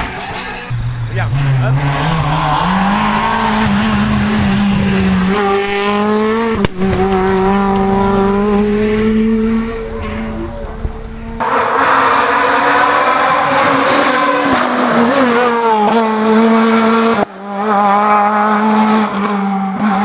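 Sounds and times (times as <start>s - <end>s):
rally car engine at high revs: 0.0s - 20.0s
rough loud rally car engine: 0.0s - 20.0s.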